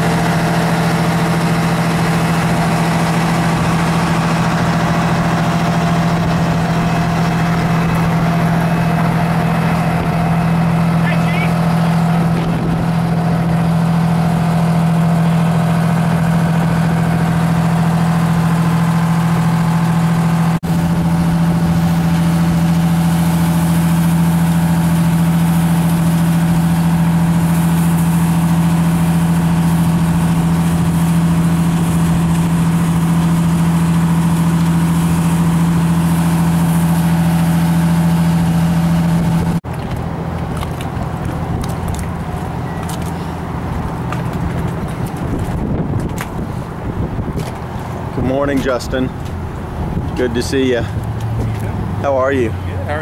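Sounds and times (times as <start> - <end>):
fire engine engine drone: 0.0 - 53.0.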